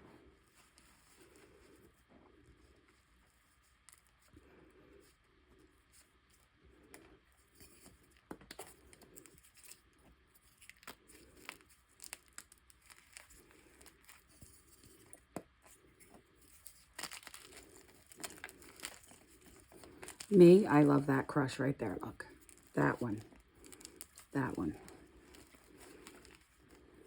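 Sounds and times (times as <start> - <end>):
chalk crumbling and crackling: 0.4 - 21.0, 22.2 - 27.0.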